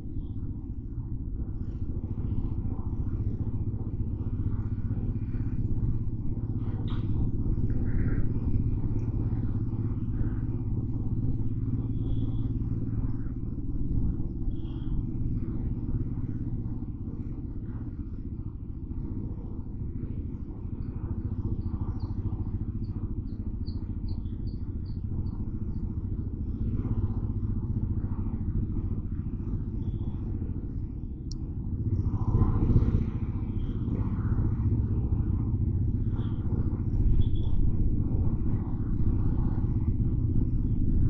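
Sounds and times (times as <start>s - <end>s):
motorcycle engine running: 0.2s - 41.0s.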